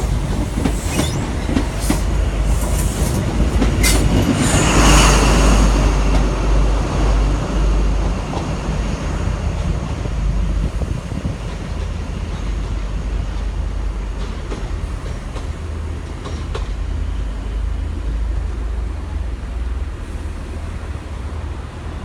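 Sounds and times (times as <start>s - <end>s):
diesel train rumble: 0.0s - 22.0s.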